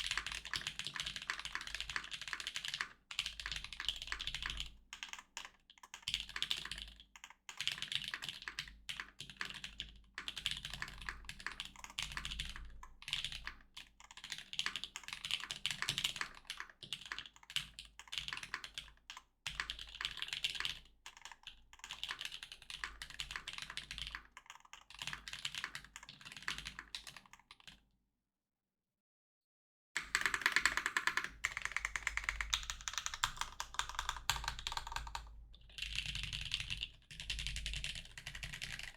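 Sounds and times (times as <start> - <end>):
fast typing on mechanical keyboard: 0.0 - 27.8, 30.0 - 38.9.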